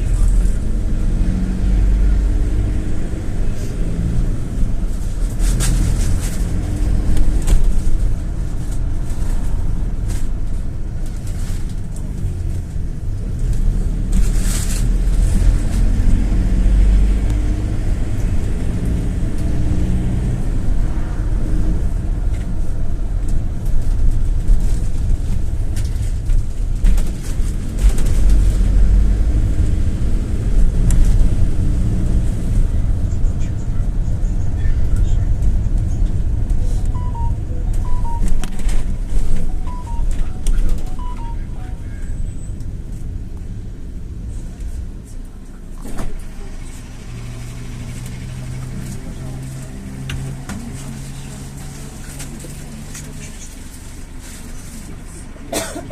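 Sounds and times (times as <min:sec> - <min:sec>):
minibus engine and road rumble: 0:00.0 - 0:55.9.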